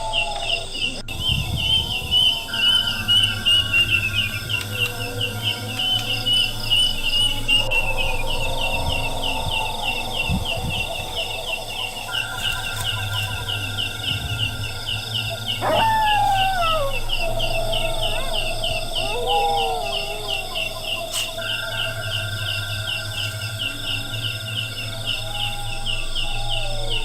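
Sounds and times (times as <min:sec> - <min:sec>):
fast insect chirping: 0:00.0 - 0:27.0
steady insect calls: 0:00.0 - 0:27.0.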